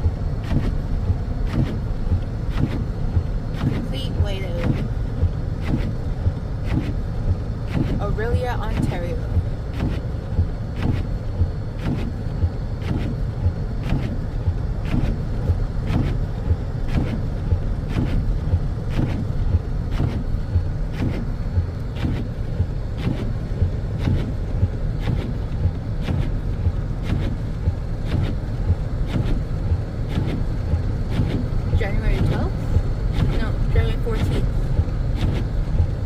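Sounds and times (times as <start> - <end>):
engine and tyre rumble: 0.0 - 36.0.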